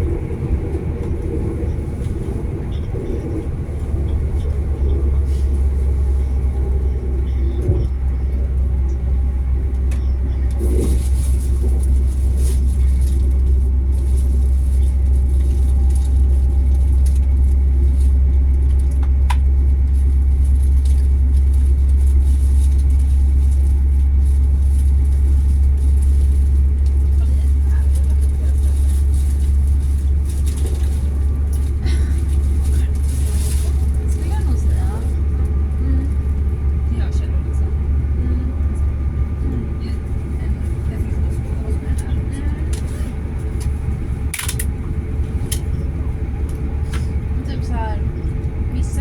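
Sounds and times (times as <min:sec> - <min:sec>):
train low rumble: 0:00.0 - 0:49.0.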